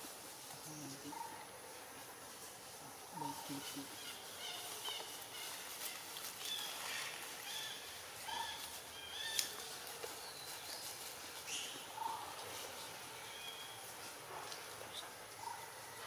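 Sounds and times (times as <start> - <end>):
steady high hiss: 0.0 - 15.9.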